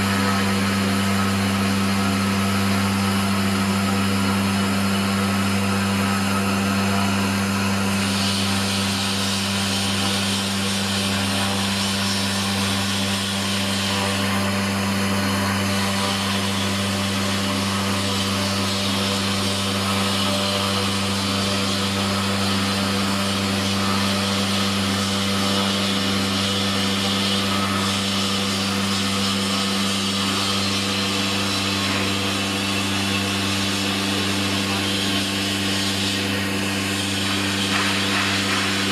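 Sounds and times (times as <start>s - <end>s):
router machine humming: 0.0s - 38.9s.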